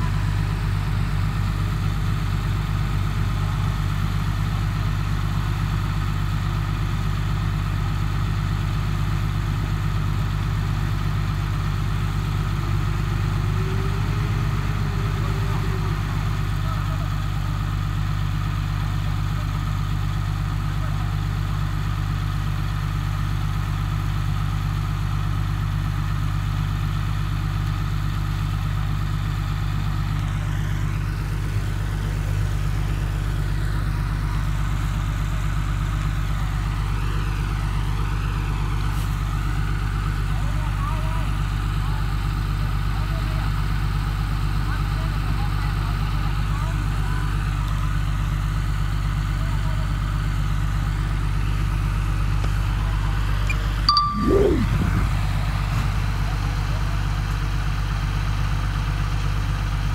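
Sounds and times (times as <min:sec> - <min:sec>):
heavy diesel engine idling: 0:00.0 - 0:53.9, 0:54.7 - 0:59.9.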